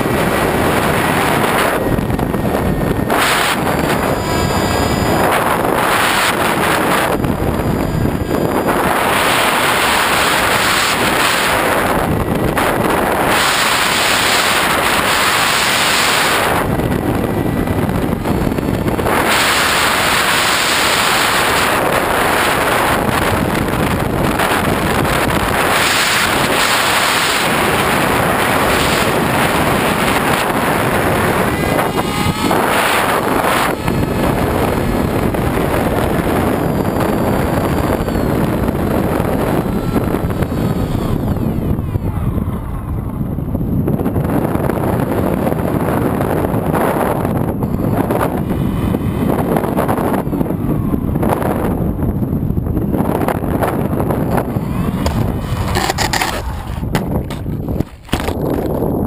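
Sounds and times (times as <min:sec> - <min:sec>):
electric motor and propeller: 0:00.0 - 0:59.0
loud wind rush: 0:00.0 - 0:59.0.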